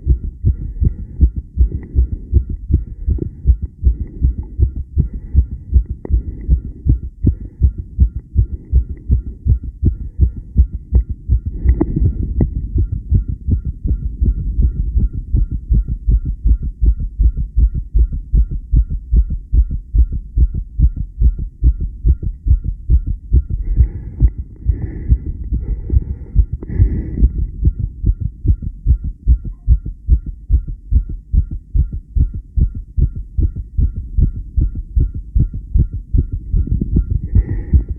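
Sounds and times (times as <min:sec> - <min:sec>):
fast heartbeat thuds: 0:00.0 - 0:37.9.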